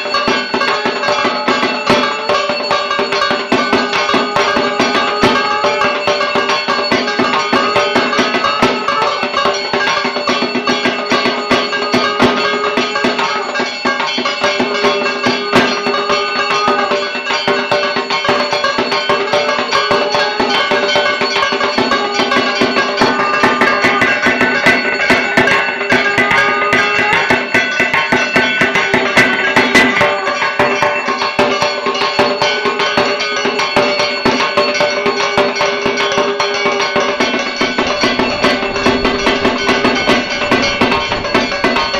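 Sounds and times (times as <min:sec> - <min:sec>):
drums in fast rhythm: 0:00.0 - 0:41.9
steady held tones: 0:00.0 - 0:41.9.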